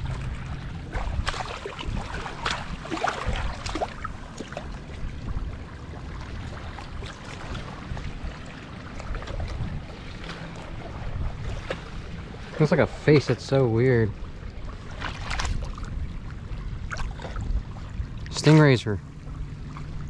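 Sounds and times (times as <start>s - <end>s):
water noise: 0.0s - 20.0s
wind: 0.0s - 20.0s.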